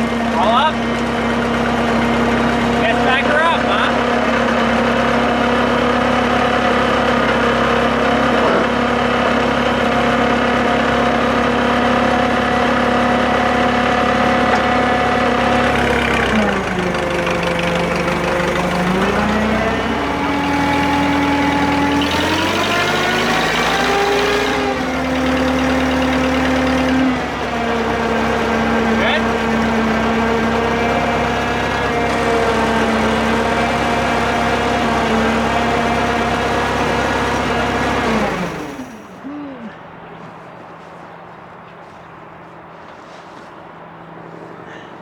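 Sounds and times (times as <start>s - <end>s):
crane engine running: 0.0s - 45.0s.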